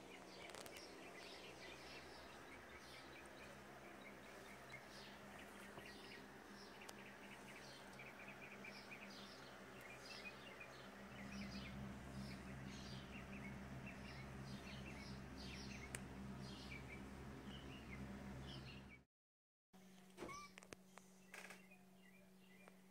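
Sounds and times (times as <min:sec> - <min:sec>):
small birds chirping: 0:00.0 - 0:19.0, 0:19.8 - 0:22.9
steady low hum: 0:00.0 - 0:19.0.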